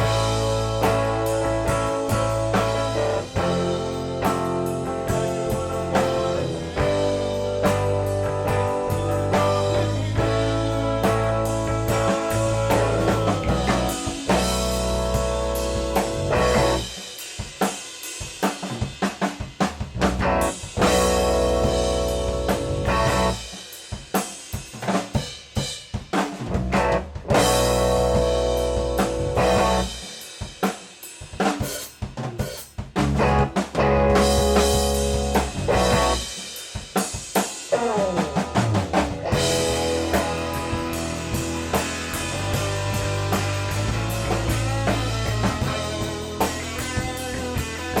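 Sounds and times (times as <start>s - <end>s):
bass guitar: 0.0s - 17.0s, 19.6s - 23.6s, 26.4s - 30.1s, 32.8s - 36.5s, 37.7s - 48.0s
electric guitar: 0.0s - 17.1s, 19.9s - 23.6s, 26.5s - 30.2s, 33.0s - 36.5s, 37.6s - 48.0s
drum kit playing alone: 0.0s - 48.0s
rock band playing: 0.0s - 48.0s.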